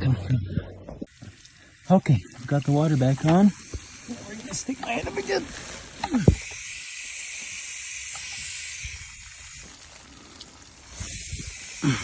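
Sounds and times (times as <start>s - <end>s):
water spraying from leaking pipe: 1.0s - 12.0s.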